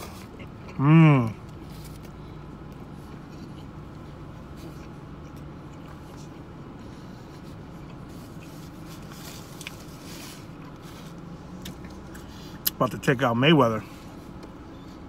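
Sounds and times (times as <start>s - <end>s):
person chewing: 0.0s - 12.8s.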